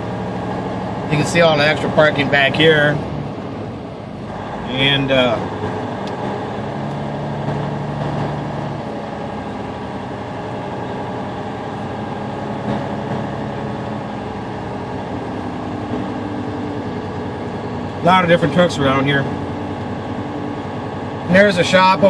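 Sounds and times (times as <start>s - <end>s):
low hum: 0.0s - 21.3s
truck engine drone: 0.0s - 22.0s.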